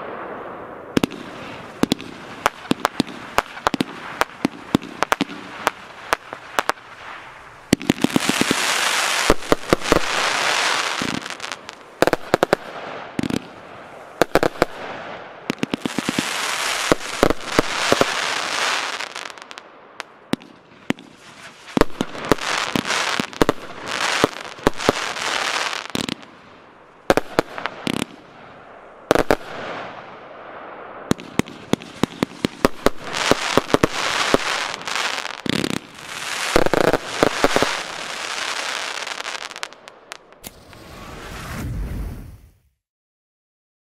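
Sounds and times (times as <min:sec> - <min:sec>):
firework crackling: 0:00.0 - 0:28.4, 0:29.0 - 0:30.1, 0:31.1 - 0:42.6
firework shots: 0:00.0 - 0:42.6.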